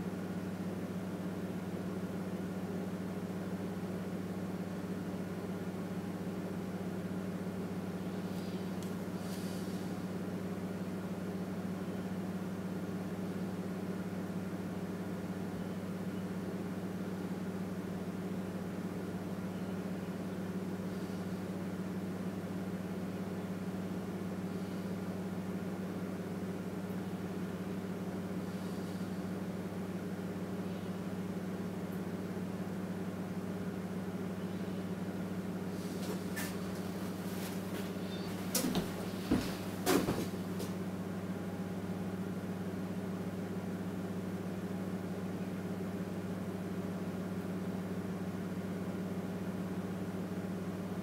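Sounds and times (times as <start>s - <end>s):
low mechanical hum with hiss: 0.0s - 51.0s.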